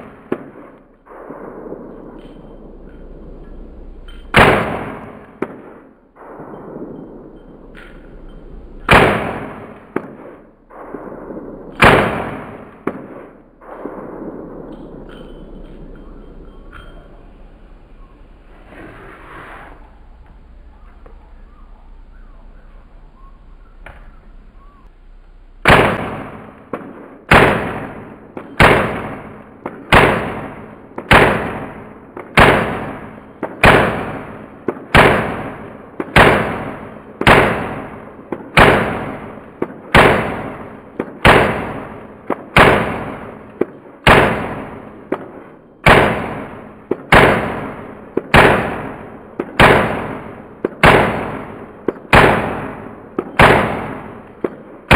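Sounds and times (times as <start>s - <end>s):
rifle shots: 0.0s - 17.0s, 25.6s - 54.9s.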